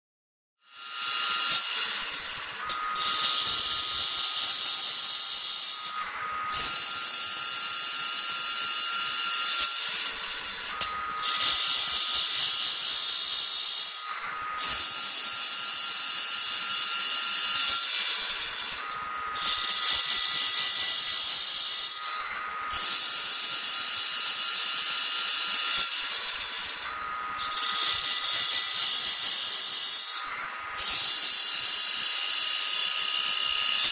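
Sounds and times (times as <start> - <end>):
saw blade grinding machine: 0.6 - 33.9.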